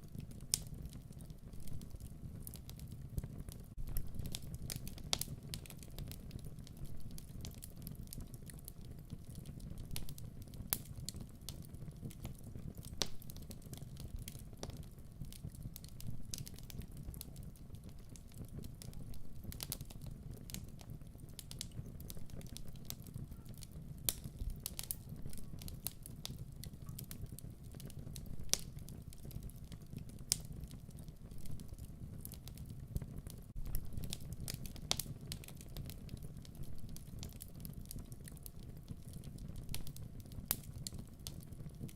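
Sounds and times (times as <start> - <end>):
fire crackles and pops: 0.0 - 41.9.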